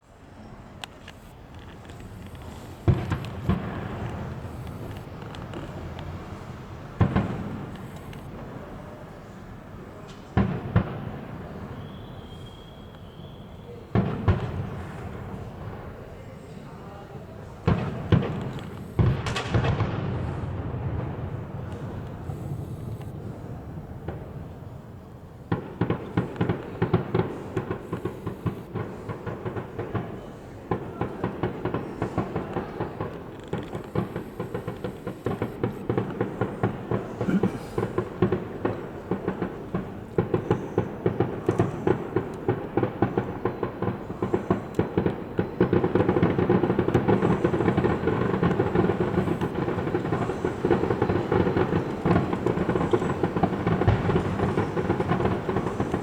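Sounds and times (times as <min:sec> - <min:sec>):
fireworks bangs and crackles: 0:00.1 - 0:56.0.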